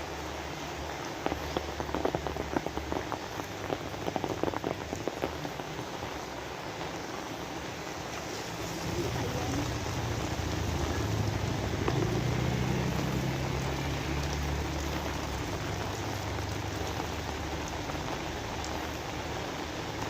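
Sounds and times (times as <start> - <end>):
rain falling on surfaces: 0.0 - 20.0.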